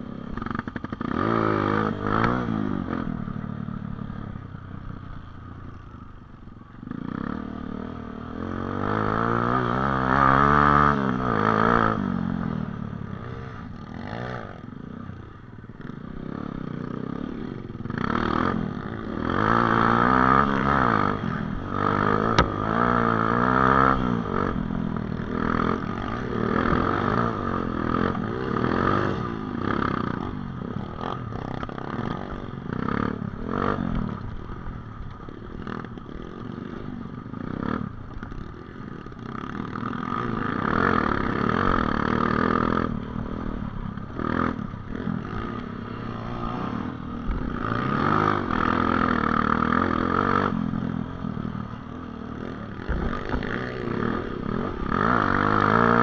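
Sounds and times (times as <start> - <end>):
dirt bike engine revving: 6.9 - 14.7, 15.8 - 34.6, 35.4 - 56.0.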